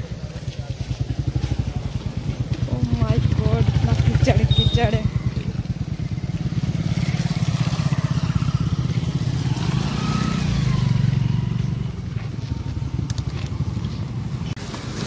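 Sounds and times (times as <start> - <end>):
motorcycle engines passing: 0.0 - 15.0.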